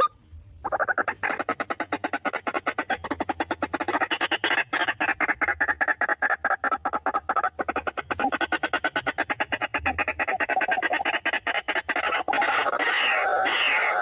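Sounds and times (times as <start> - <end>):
bird harsh croaking calls: 0.0 - 14.0.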